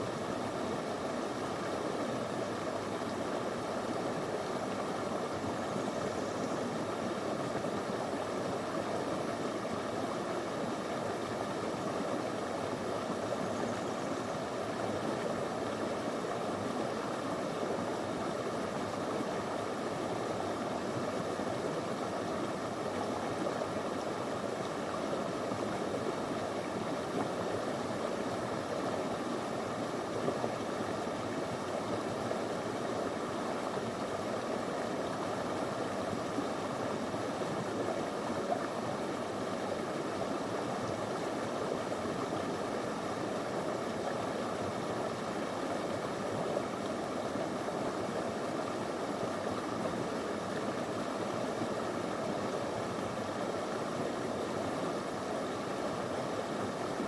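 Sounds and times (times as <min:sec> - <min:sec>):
stream running over stones: 0:00.1 - 0:57.0.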